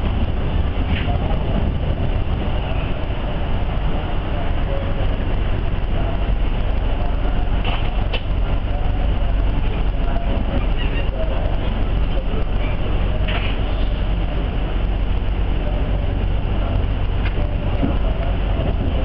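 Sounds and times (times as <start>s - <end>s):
passing train: 0.0s - 19.0s
train running rumble inside coach: 0.0s - 19.0s.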